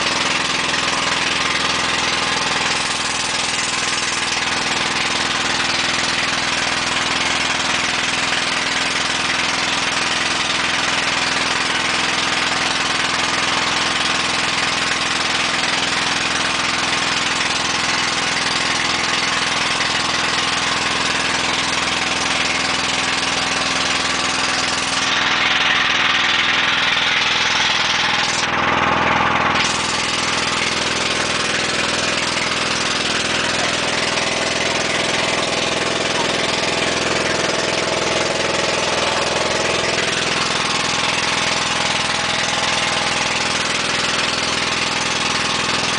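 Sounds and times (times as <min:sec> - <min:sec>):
boat engine running: 0:00.0 - 0:45.9.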